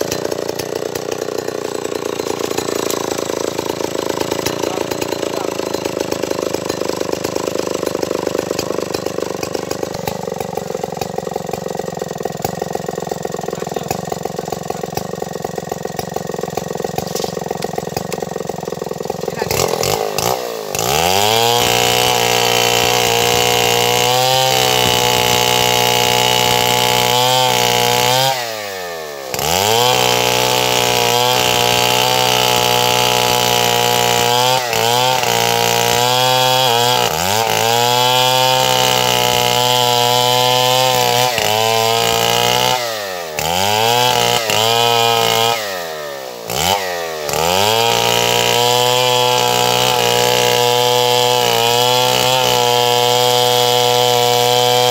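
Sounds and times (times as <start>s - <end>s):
chainsaw sawing wood: 0.0s - 54.9s.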